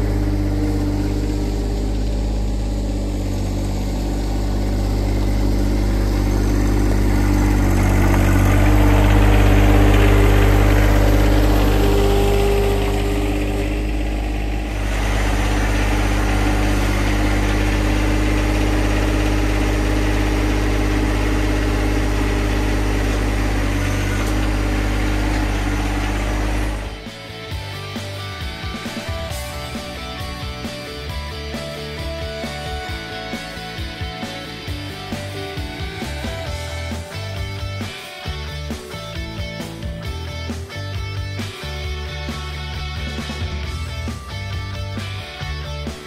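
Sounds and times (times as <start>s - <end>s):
diesel tractor engine running: 0.0s - 46.0s.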